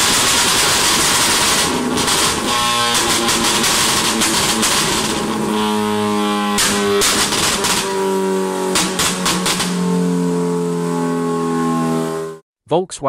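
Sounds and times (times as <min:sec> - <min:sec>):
raspy car engine on dyno: 0:00.0 - 0:12.4.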